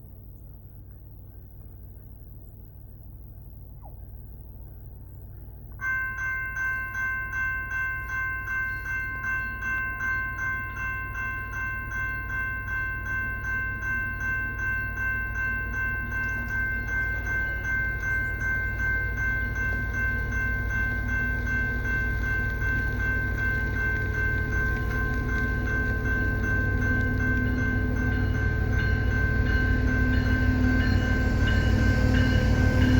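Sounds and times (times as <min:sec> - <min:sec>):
railroad crossing bell ringing: 0:05.8 - 0:32.9.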